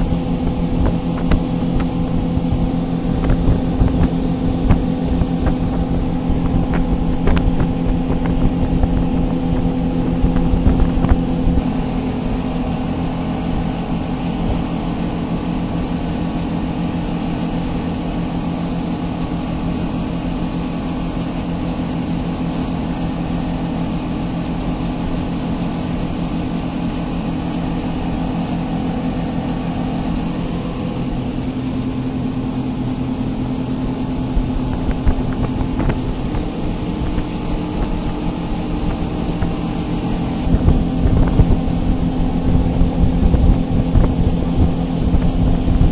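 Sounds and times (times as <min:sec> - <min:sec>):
motorboat engine droning: 0:00.0 - 0:45.9
water and hull noise: 0:00.0 - 0:45.9.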